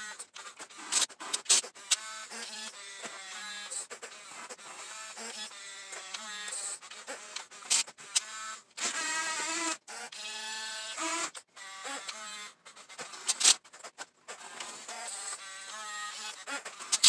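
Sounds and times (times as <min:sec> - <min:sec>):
toy excavator motors whirring: 0:00.0 - 0:17.0.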